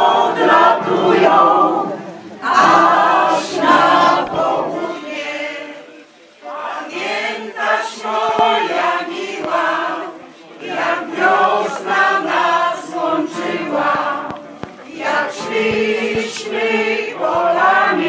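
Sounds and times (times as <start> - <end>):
mixed choir singing: 0.0 - 18.0.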